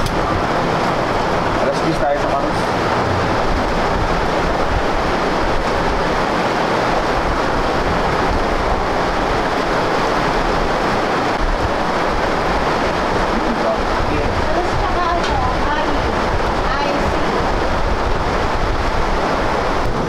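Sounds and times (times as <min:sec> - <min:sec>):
loud rushing noise: 0:00.0 - 0:20.0.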